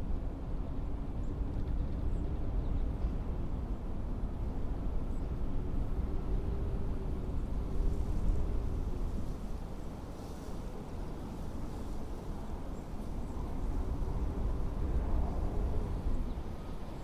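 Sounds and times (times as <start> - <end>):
blizzard wind rumbling: 0.0 - 17.0
faint wind whistling: 0.0 - 17.0.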